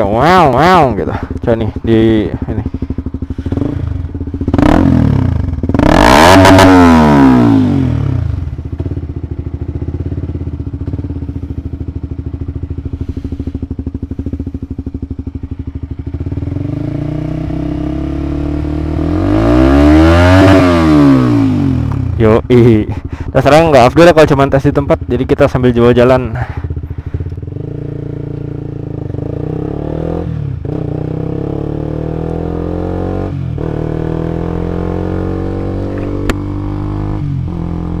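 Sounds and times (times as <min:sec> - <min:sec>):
motorcycle engine idling and revving: 0:00.0 - 0:38.0.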